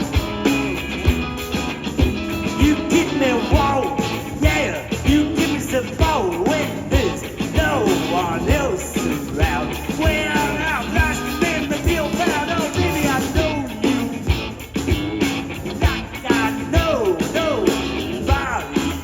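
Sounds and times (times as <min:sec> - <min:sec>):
blues band playing: 0:00.0 - 0:19.0
steady drum beat: 0:00.0 - 0:19.0.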